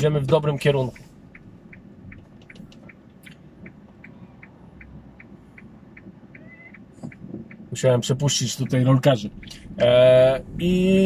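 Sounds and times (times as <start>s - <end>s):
low car hum: 0.0s - 11.0s
turn signal ticking: 0.0s - 11.0s.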